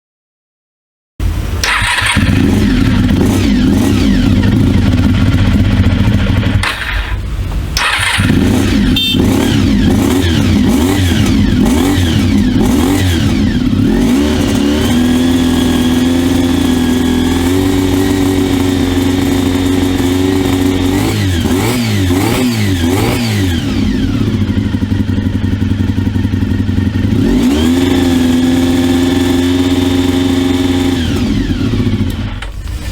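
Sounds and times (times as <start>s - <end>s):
motorcycle engine revving: 1.3s - 32.9s.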